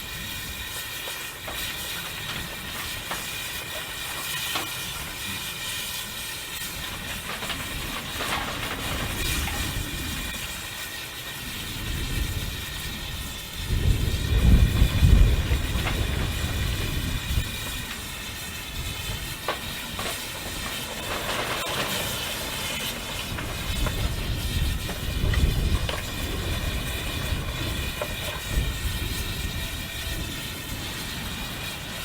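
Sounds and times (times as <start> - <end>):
train running along the line: 0.0 - 32.0.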